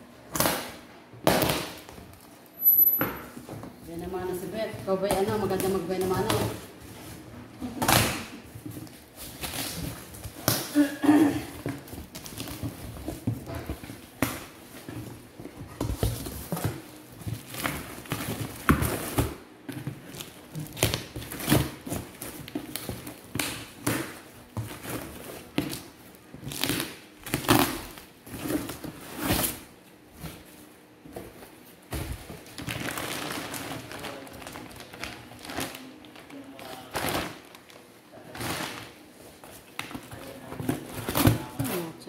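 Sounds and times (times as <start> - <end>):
plastic lining rustling: 3.3 - 42.0.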